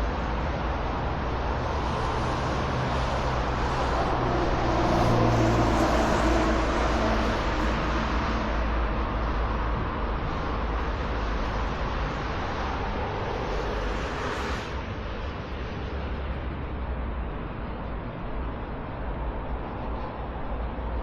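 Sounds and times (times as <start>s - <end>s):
city road traffic: 0.0s - 21.0s.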